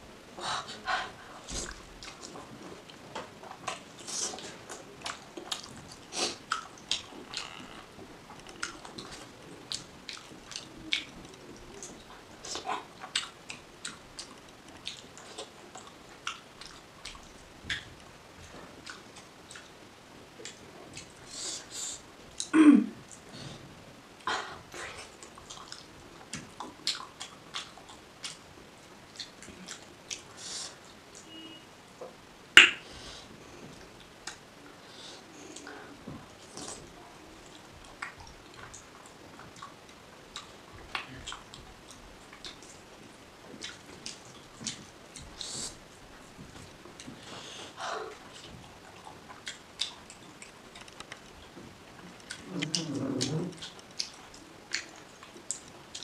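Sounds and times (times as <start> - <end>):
wet chewing and lip smacks: 0.8 - 19.8, 20.4 - 22.5, 24.7 - 31.4, 35.3 - 56.0.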